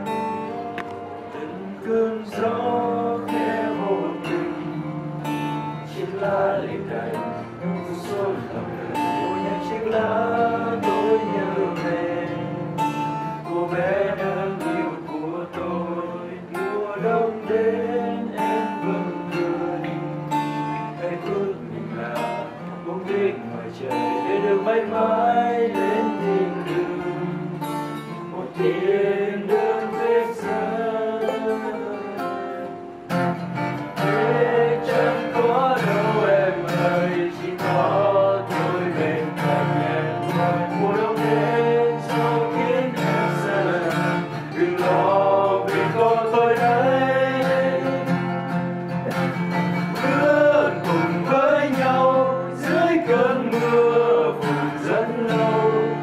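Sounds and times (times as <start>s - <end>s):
acoustic guitars strumming: 0.0s - 56.0s
men singing: 1.2s - 56.0s.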